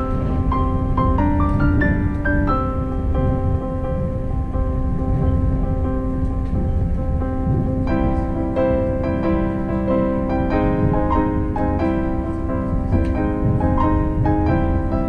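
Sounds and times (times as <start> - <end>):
low steady rumble: 0.0 - 15.0
piano music: 0.0 - 15.0.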